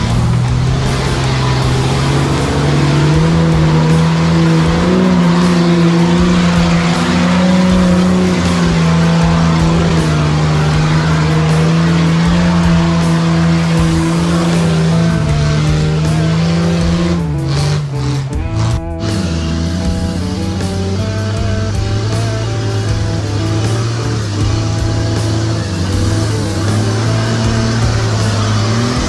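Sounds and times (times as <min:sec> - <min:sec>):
rock music: 0:00.0 - 0:29.0
truck engine running under load: 0:00.0 - 0:29.0.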